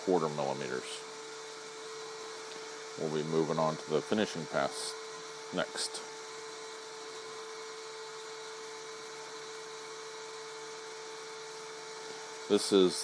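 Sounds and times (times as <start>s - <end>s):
milling spindle whining: 0.0s - 13.0s.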